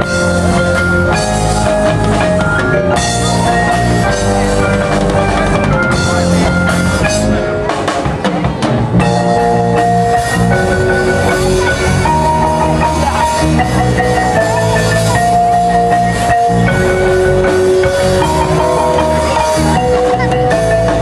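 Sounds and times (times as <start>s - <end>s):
marimbas and mallet percussion: 0.0s - 8.4s, 9.0s - 21.0s
bass line: 0.0s - 21.0s
drum kit: 0.0s - 21.0s
electric guitar: 0.0s - 21.0s.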